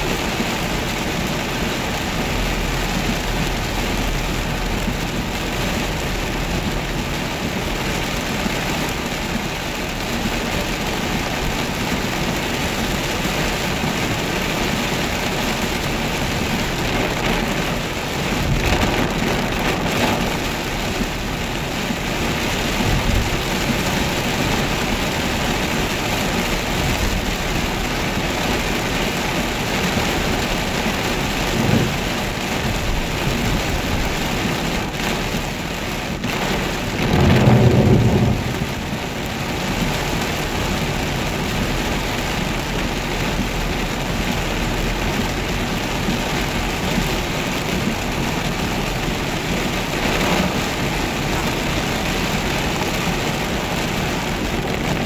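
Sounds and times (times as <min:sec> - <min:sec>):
rain on car roof: 0:00.0 - 0:55.0.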